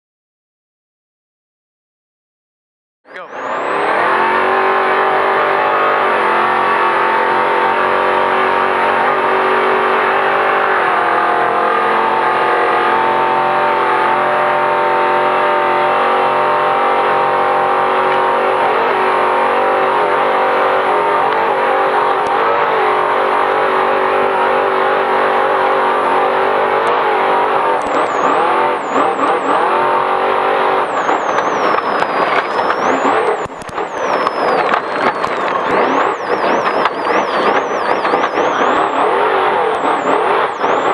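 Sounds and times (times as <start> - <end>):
race engine at high revs: 3.1 - 40.9.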